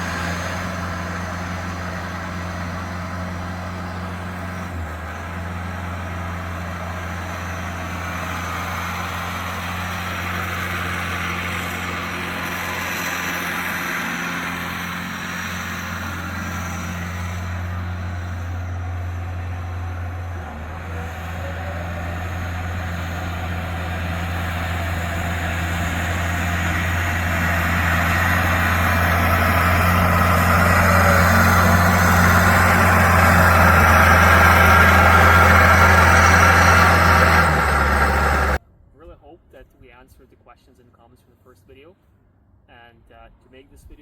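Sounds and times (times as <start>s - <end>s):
diesel engine running: 0.0s - 38.6s.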